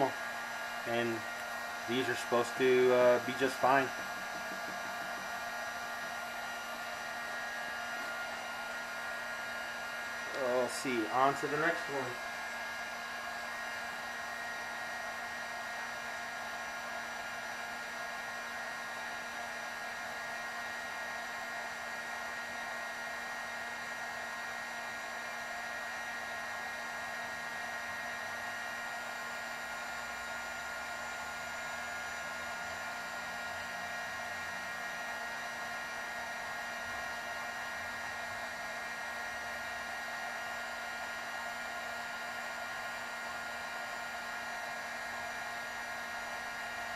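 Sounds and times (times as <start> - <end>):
heat gun whirring: 0.0 - 26.3, 26.9 - 46.9.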